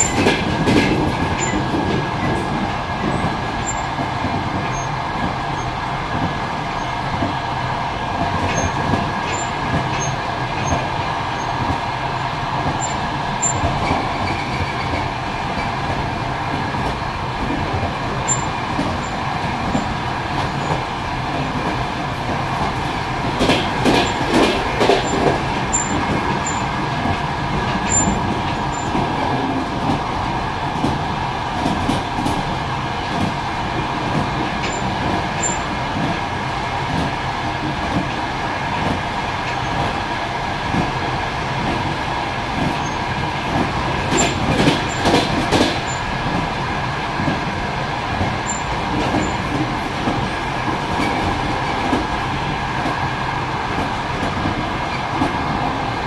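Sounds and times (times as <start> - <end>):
train wheel clacks: 0.0 - 7.4, 8.1 - 56.0
train carriage rolling rumble: 0.0 - 56.0.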